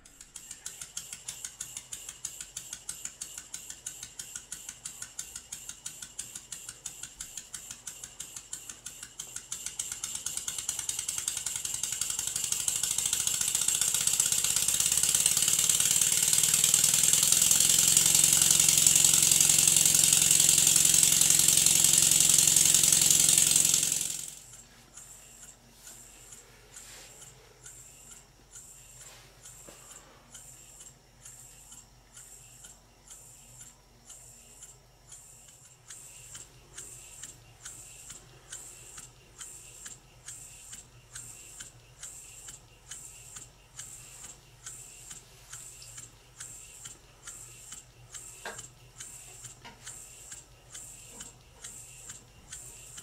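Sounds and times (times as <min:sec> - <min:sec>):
model steam engine exhaust puffs: 0:00.0 - 0:53.0.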